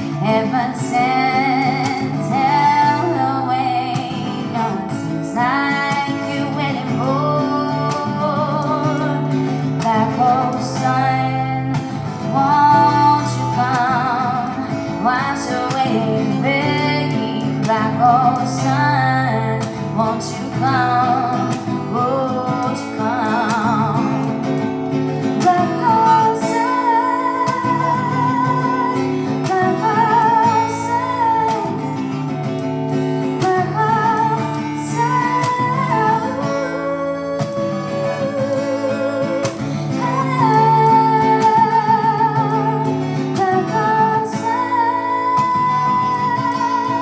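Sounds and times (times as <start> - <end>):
acoustic guitar strumming: 0.0 - 47.0
woman singing with vibrato: 0.0 - 47.0.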